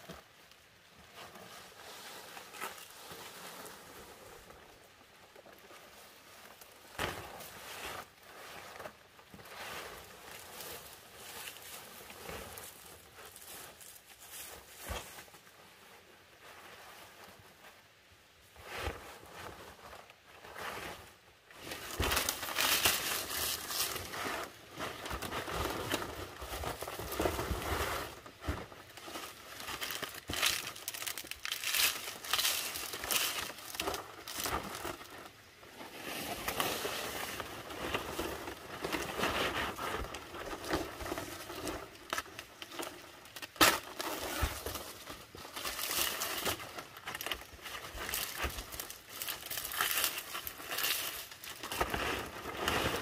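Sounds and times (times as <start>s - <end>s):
palm leaves rustling: 0.0s - 17.7s, 18.6s - 53.0s.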